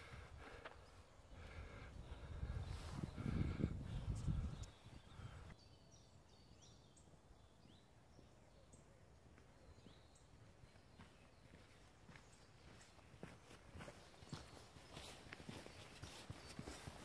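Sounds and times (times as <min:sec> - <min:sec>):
small birds chirping and whistling: 0:00.8 - 0:17.0.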